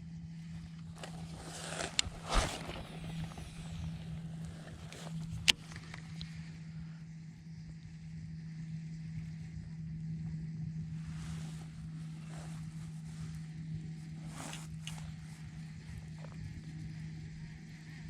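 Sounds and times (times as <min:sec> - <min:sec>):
low wind rumble: 0:00.0 - 0:18.0
steady low hum: 0:00.0 - 0:18.0.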